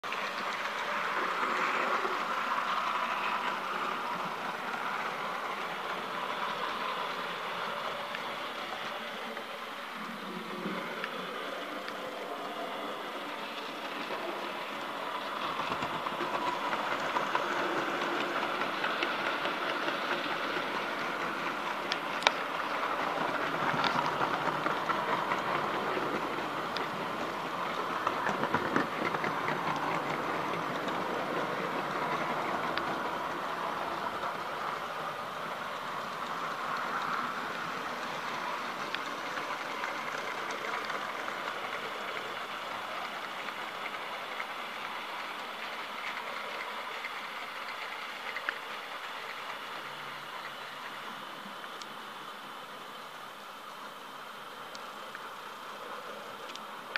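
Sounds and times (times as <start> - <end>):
model train whirring on rails: 0.0 - 56.9.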